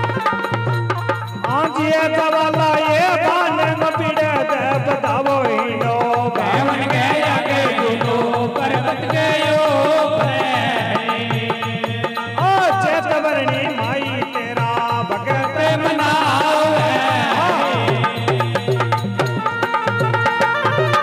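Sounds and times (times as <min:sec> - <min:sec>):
ornamented devotional melody: 0:00.0 - 0:21.0
hand drum beat: 0:02.5 - 0:21.0.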